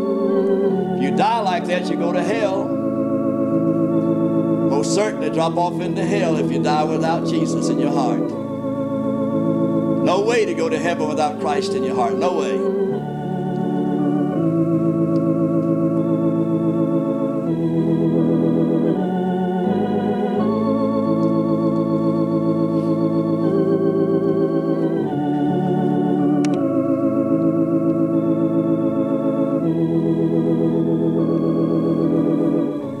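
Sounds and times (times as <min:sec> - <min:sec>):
organ playing slow hymn: 0:00.0 - 0:33.0.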